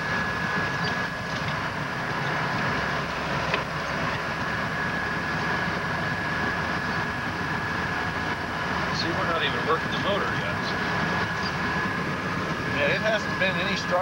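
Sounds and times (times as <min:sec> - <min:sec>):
snowcat engine and track rumble: 0:00.0 - 0:14.0
thin steady whine: 0:00.0 - 0:14.0.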